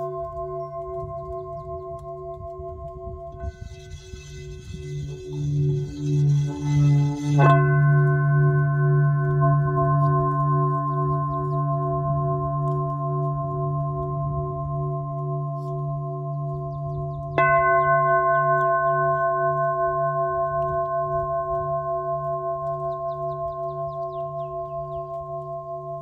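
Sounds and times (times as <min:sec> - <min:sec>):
crystal singing bowl ringing: 0:00.0 - 0:26.0.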